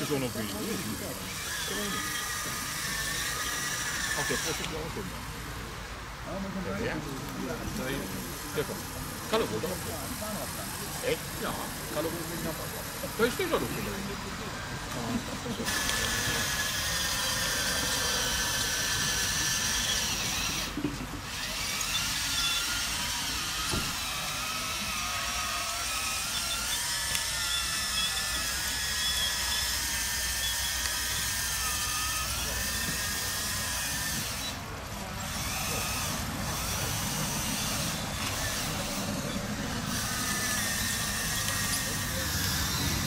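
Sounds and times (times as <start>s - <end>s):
small electric motor whining: 0.0s - 43.0s.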